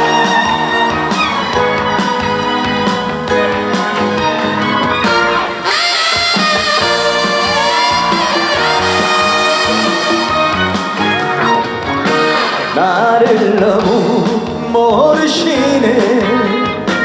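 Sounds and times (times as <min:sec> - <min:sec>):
backing track with steady beat: 0:00.0 - 0:17.0
sliding lead melody: 0:00.0 - 0:17.0.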